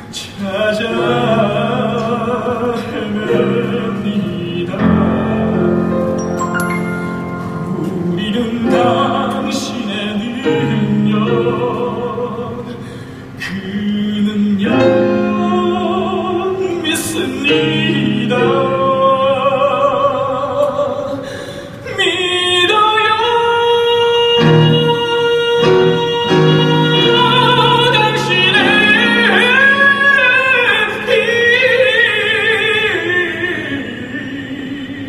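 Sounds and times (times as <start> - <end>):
person singing with vibrato: 0.0 - 35.0
piano accompaniment: 0.8 - 20.5, 24.0 - 34.3.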